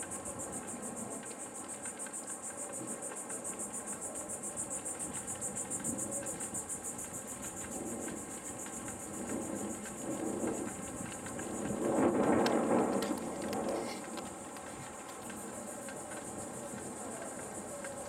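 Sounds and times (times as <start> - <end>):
insects calling: 0.0 - 18.0.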